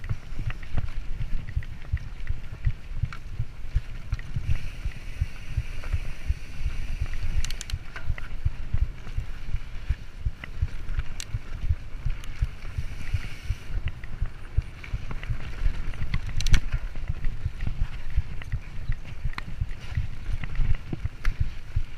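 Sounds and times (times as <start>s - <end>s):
bike rattling over bumps: 0.0s - 21.9s
bike tyres rumbling on dirt: 0.0s - 21.9s
wind buffeting microphone: 0.0s - 21.9s.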